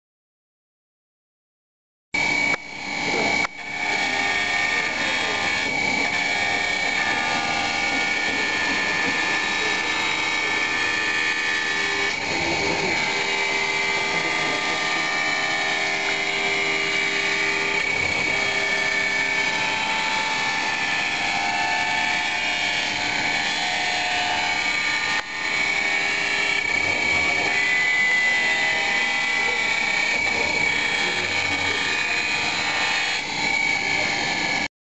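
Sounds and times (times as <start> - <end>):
polishing machine motor whine: 2.2 - 34.7.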